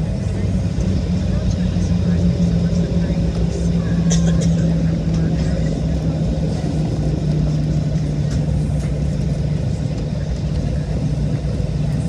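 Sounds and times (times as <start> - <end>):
jet engines low rumble: 0.0 - 12.0
steady cabin hum: 0.0 - 12.0.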